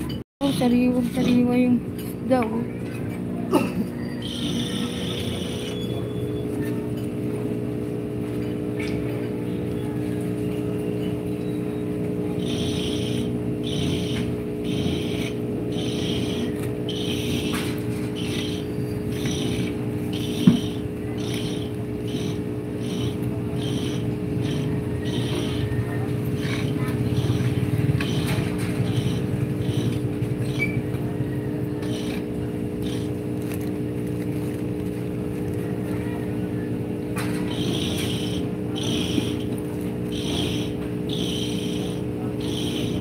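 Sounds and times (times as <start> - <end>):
steady machine hum: 0.0 - 43.0.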